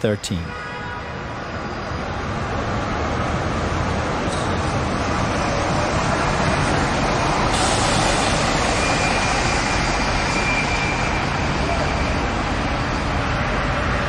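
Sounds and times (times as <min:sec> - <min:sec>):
city traffic noise: 0:00.0 - 0:14.0.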